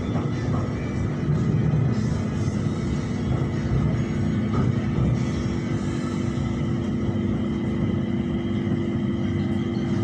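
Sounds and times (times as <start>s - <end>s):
background music: 0.0s - 10.0s
train rumble inside carriage: 0.0s - 10.0s.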